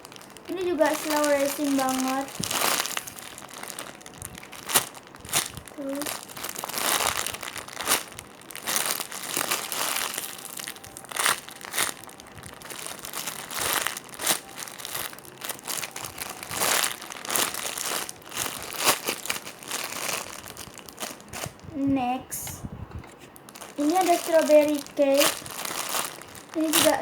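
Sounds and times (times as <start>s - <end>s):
foam toy crinkling and rustling: 0.0s - 27.0s.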